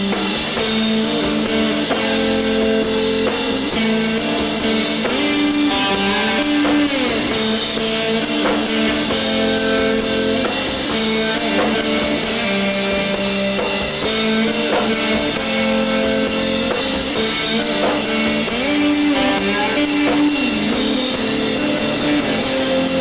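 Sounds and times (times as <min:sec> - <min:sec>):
drum kit beat: 0:00.0 - 0:23.0
electric guitars sliding notes: 0:00.0 - 0:23.0.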